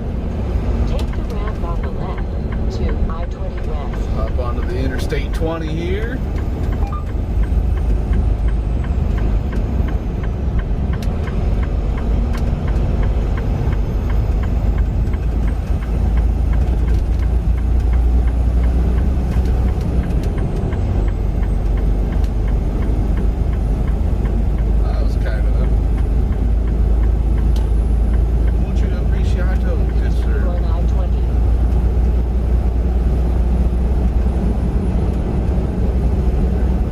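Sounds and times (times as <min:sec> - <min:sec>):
road noise: 0:00.0 - 0:36.9
truck engine low rumble: 0:00.0 - 0:36.9.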